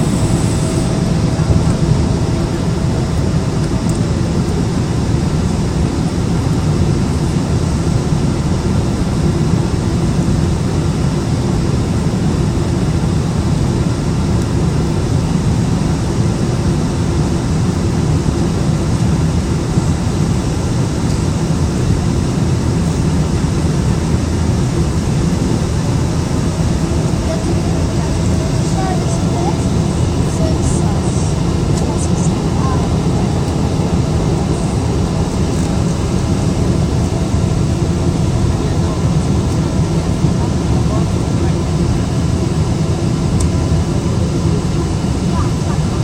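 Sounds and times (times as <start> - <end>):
jet engine rumble and hiss: 0.0 - 46.0.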